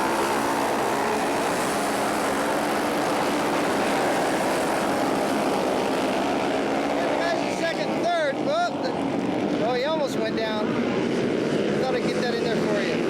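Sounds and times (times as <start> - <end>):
motorcycle engines racing: 0.0 - 13.0.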